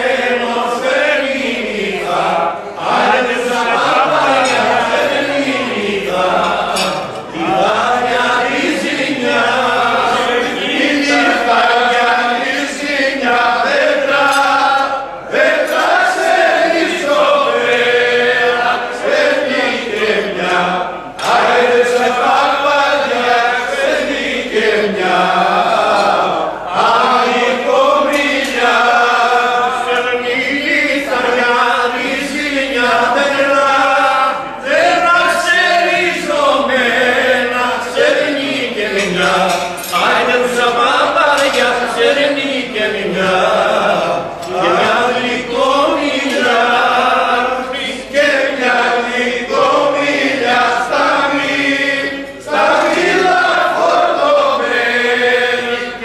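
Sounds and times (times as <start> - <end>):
men singing folk song: 0.0 - 56.0.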